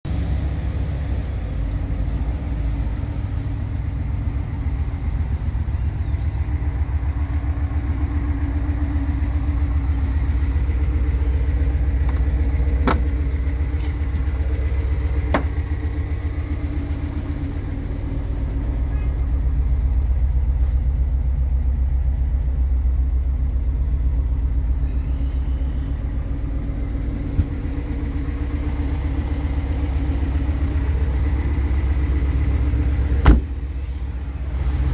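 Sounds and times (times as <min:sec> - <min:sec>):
van engine idling: 0:00.1 - 0:34.9.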